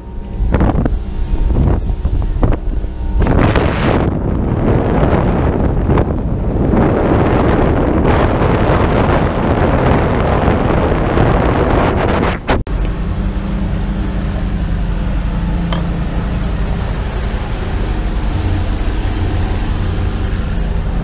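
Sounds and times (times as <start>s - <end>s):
outboard motor droning: 0.0s - 21.0s
wind buffeting microphone: 0.0s - 21.0s.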